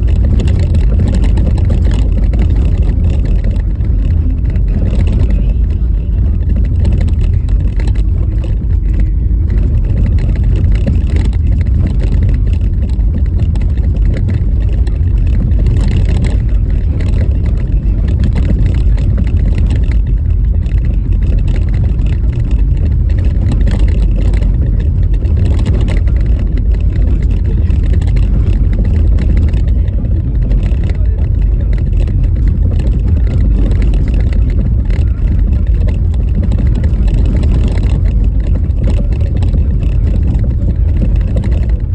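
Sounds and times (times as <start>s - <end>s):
car road rumble: 0.0s - 41.9s
wind noise: 0.0s - 41.9s.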